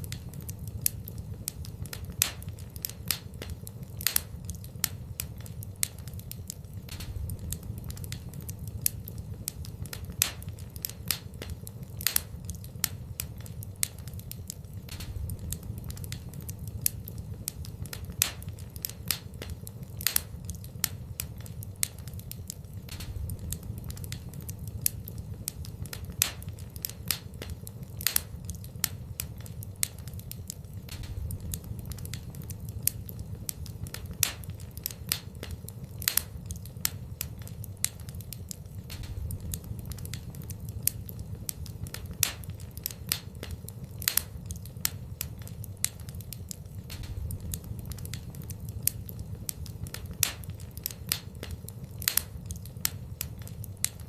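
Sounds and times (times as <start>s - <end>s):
fire crackling and popping: 0.0s - 54.0s
low steady rumble: 0.0s - 54.0s.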